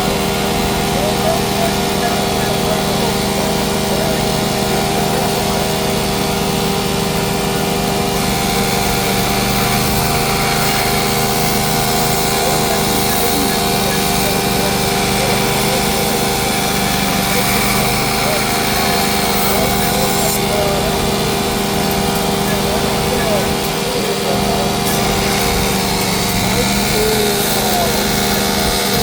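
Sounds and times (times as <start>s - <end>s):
machine drone with hum tones: 0.0s - 29.0s.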